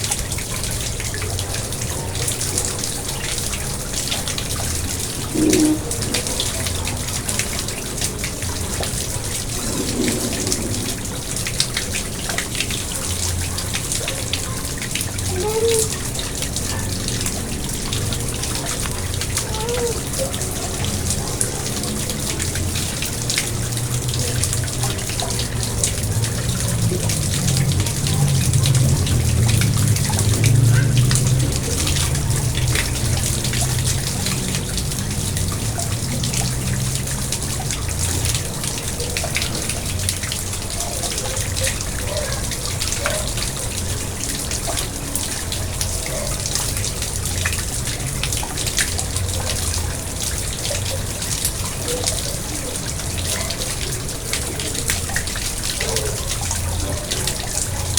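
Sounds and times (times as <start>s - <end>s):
pond water trickling and splashing: 0.0s - 57.9s.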